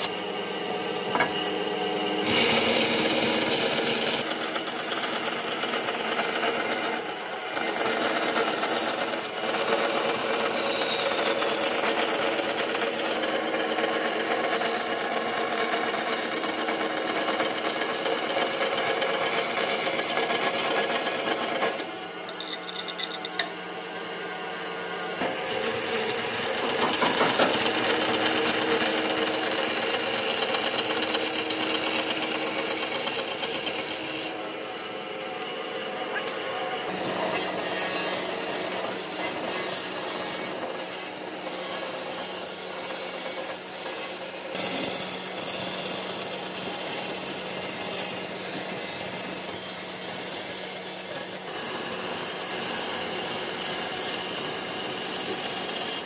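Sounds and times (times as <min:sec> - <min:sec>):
power tool running on wood: 0:00.0 - 0:00.2, 0:02.2 - 0:22.1, 0:25.2 - 0:34.5, 0:36.9 - 0:56.0.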